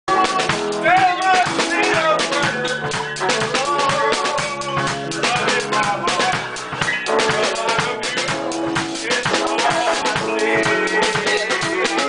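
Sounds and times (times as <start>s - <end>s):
drum and cymbal hits: 0.1s - 12.0s
live band music: 0.1s - 12.0s.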